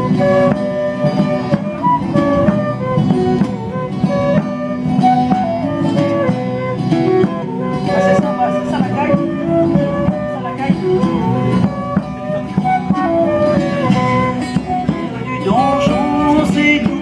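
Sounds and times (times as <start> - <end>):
drum beating steady rhythm: 0.0 - 17.0
flute and recorder melody: 0.0 - 17.0
strummed plucked string instrument: 0.0 - 17.0.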